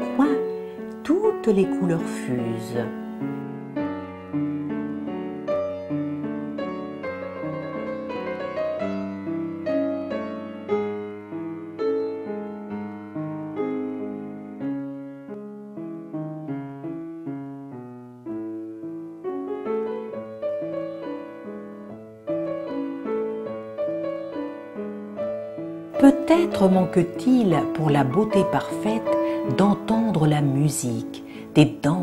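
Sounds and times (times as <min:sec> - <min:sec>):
keyboard music: 0:00.0 - 0:31.1.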